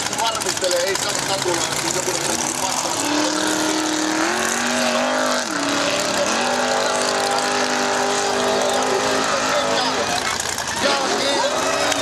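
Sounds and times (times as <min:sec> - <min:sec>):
buggy engine at high revs: 0:00.0 - 0:12.0.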